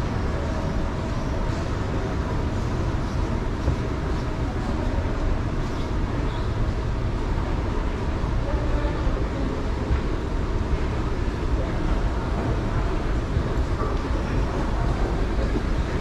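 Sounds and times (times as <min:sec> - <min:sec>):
moving walkway rumbling: 0:00.0 - 0:16.0.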